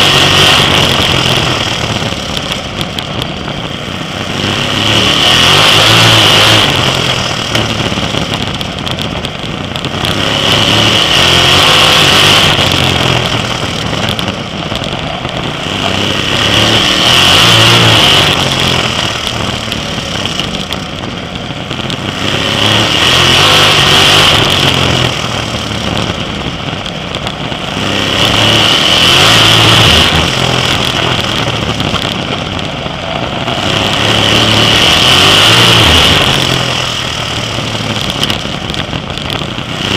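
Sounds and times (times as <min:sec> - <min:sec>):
sprint car engine racing: 0:00.0 - 0:39.9.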